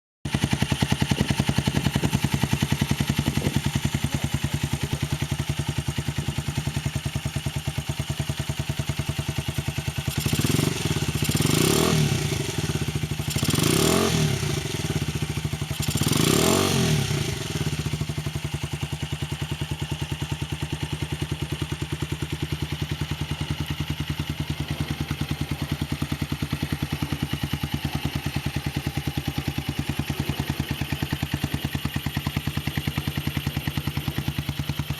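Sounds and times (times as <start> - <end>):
engine idling and revving: 0.3 - 34.9.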